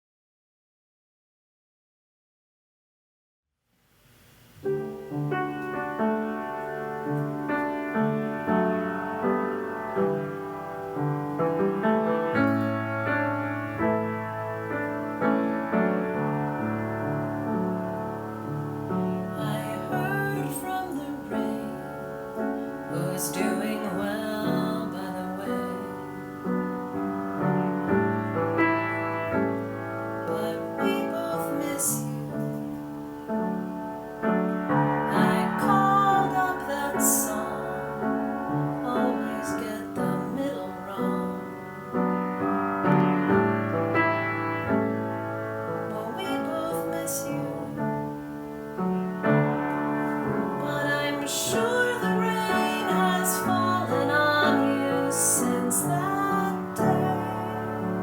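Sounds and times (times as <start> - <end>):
piano music: 4.5 - 58.0.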